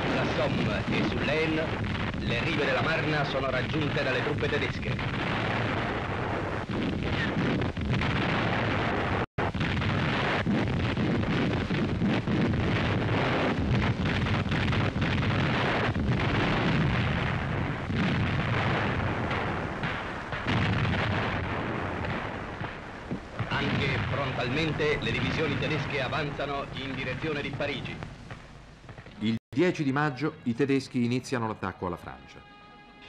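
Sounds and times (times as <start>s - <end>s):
gunfire: 0.0s - 29.2s
artillery shells exploding: 0.0s - 29.4s.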